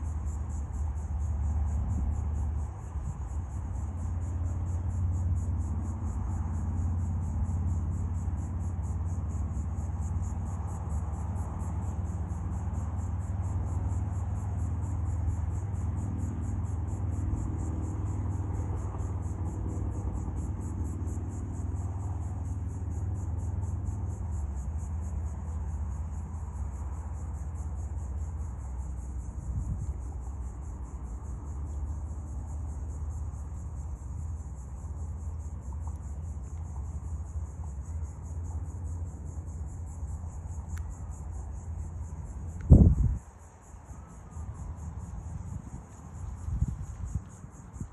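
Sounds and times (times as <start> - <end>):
insects chirping: 0.0 - 47.9.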